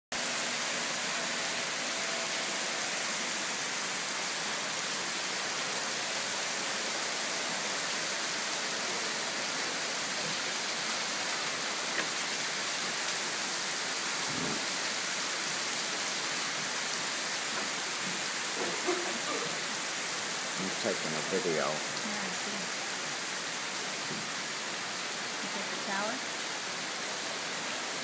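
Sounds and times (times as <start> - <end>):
rain falling on a lake: 0.1 - 28.0.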